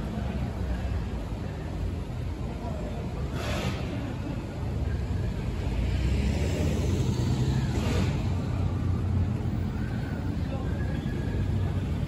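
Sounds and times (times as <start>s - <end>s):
city street traffic rumble: 0.0s - 12.0s.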